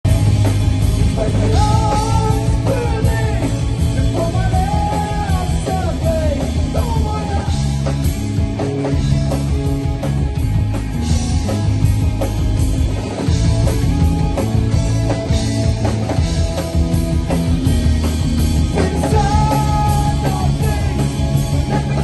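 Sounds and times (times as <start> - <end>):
rock band playing live: 0.0 - 22.0
sung lead melody: 0.0 - 22.0.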